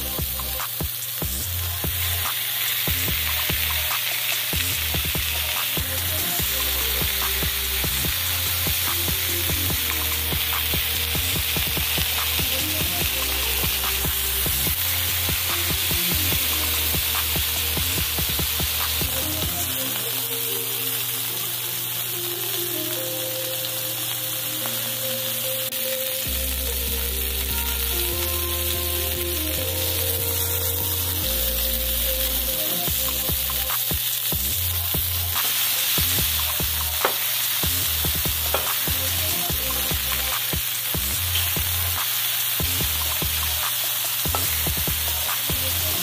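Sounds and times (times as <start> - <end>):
background music: 0.0 - 46.0
patties sizzling on griddle: 0.0 - 46.0.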